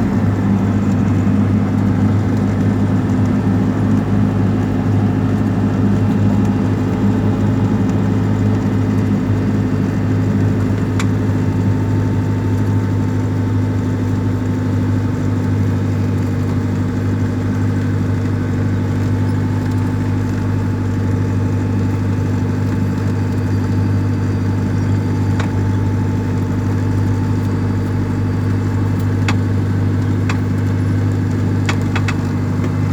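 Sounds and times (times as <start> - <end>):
aircraft engine and propeller droning: 0.0 - 32.9.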